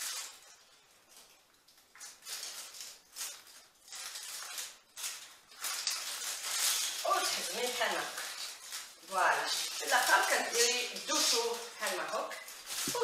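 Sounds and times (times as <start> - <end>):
leaves rustling: 0.0 - 13.0.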